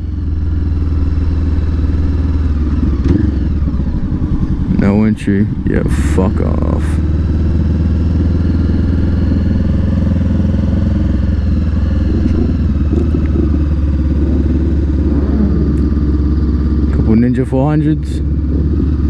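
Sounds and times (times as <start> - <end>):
motorcycle engine running at low revs: 0.0 - 19.0.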